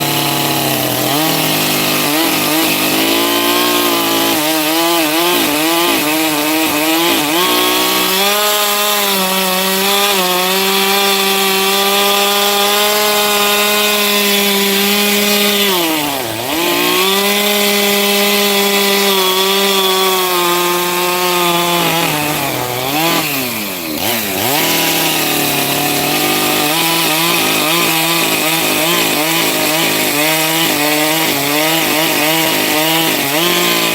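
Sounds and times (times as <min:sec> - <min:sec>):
chainsaw cutting firewood: 0:00.0 - 0:33.9.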